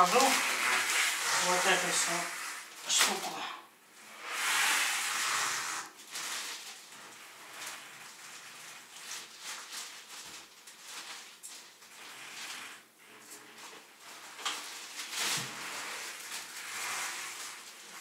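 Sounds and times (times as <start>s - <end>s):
plastic bag rustling: 0.0s - 18.0s.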